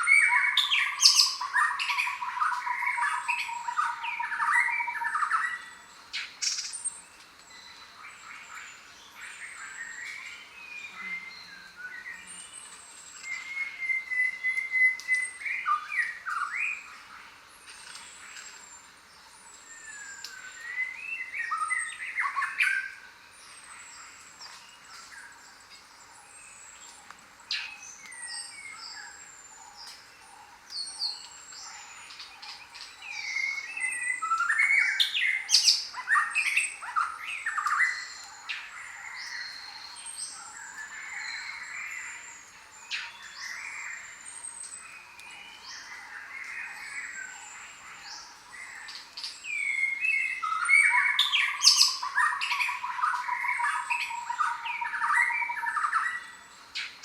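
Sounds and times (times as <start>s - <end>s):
chattering bird calls: 0.0s - 7.0s, 7.6s - 57.0s
birds chirping: 0.0s - 57.0s.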